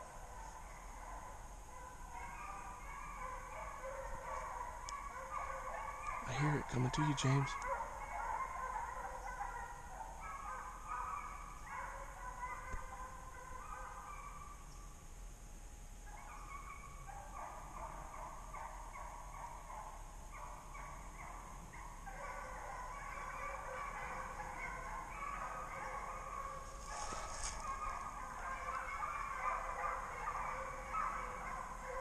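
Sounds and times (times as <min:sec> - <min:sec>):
hounds baying: 0:00.0 - 0:14.6, 0:16.0 - 0:32.0.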